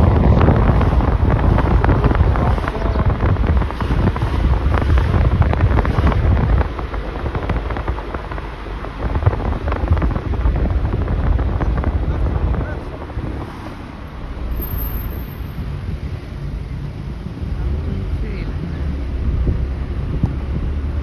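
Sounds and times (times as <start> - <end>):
wind buffeting microphone: 0.0 - 14.5, 15.4 - 21.0.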